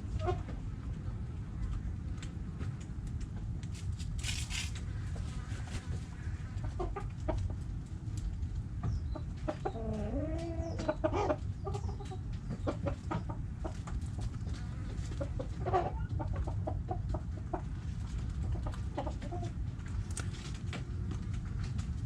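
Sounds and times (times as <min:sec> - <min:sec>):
chickens clucking: 0:00.0 - 0:01.8, 0:04.3 - 0:21.8
steady low rumble: 0:00.0 - 0:22.0.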